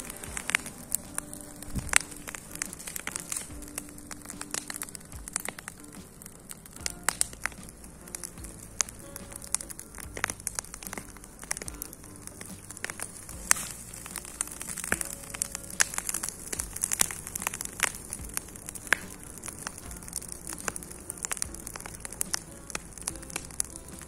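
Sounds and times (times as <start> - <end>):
bonfire crackling and popping: 0.0 - 24.0.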